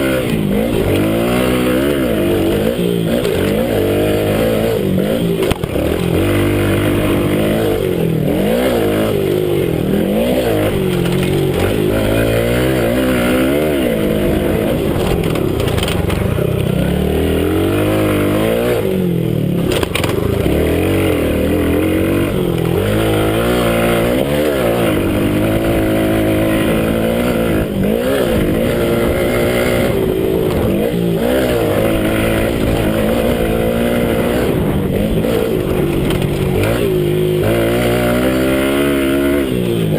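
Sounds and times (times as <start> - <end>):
minibike engine revving: 0.0 - 39.9.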